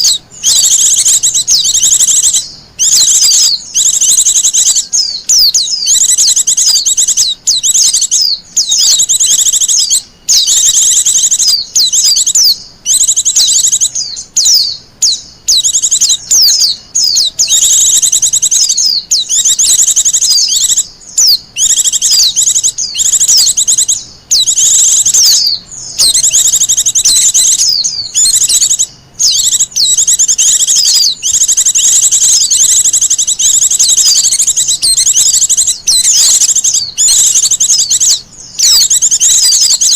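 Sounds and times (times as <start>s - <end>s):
bird high twittering: 0.0s - 39.9s.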